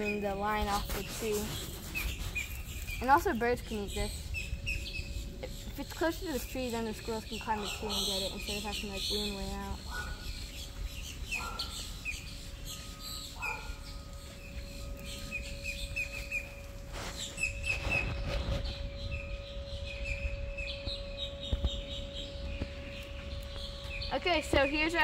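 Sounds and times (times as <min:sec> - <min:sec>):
birds chirping and whistling: 0:00.0 - 0:25.0
faint steady hum: 0:00.0 - 0:25.0.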